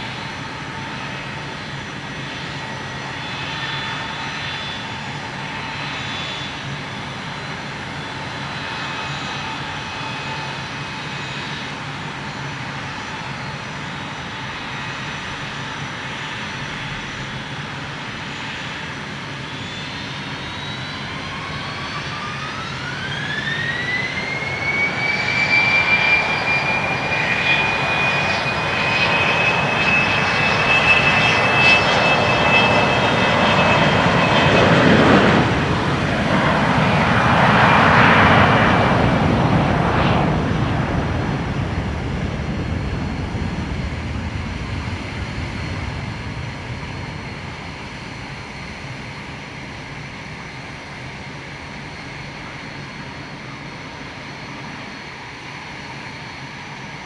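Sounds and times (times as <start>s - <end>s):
jet engines whining: 0.0s - 57.0s
jet roar: 0.0s - 57.0s.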